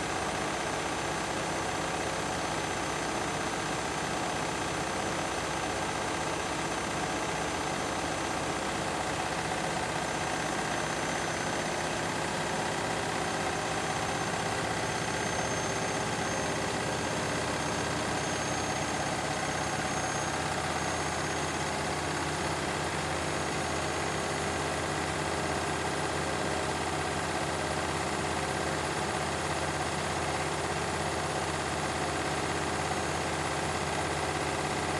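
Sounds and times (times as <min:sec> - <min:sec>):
washing machines running: 0:00.0 - 0:34.9.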